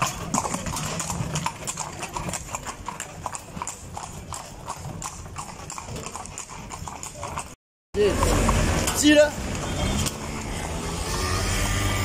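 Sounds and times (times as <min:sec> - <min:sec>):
horse hooves clip-clopping on asphalt: 0:00.0 - 0:10.4.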